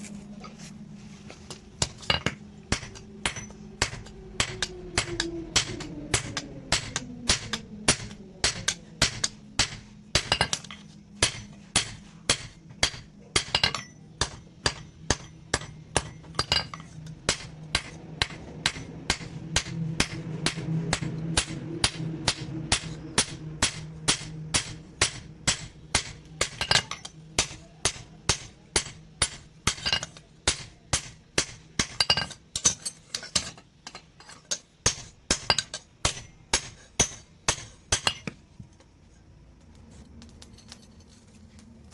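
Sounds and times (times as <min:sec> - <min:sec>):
low hum: 0:00.0 - 0:41.9
hammer striking steel on anvil: 0:01.8 - 0:38.4.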